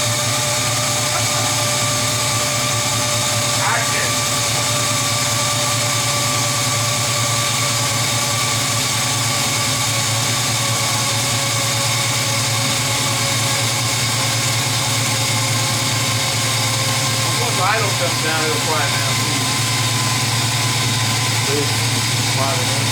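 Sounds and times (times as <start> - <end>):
car engine fast idle: 0.0 - 22.9.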